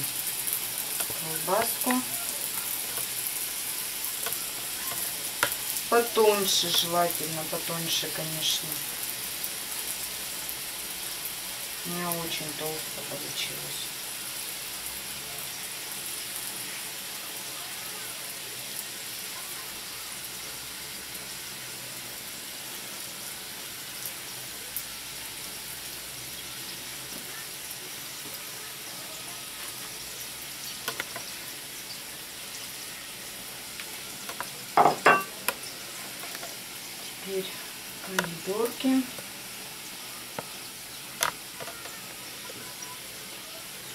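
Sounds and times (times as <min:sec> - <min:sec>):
dough sizzling in a skillet: 0:00.0 - 0:43.9.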